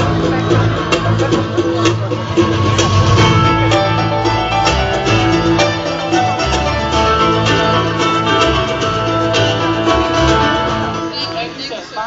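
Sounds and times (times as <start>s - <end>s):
loud instrumental music: 0.0s - 12.0s.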